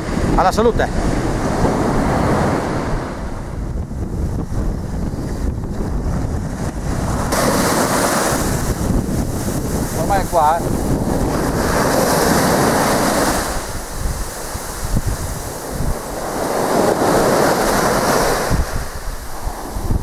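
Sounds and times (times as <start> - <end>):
surf washing up beach: 0.0 - 20.0
wind buffeting microphone: 0.0 - 20.0.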